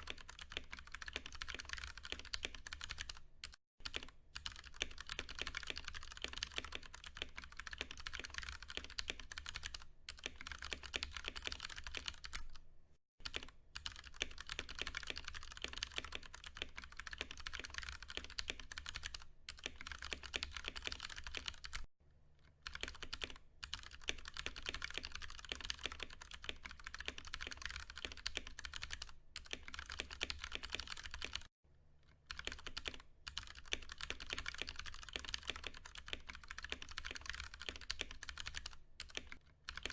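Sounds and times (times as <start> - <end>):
mechanical keyboard typing: 0.0 - 12.6, 13.2 - 21.9, 22.6 - 31.5, 32.2 - 39.9.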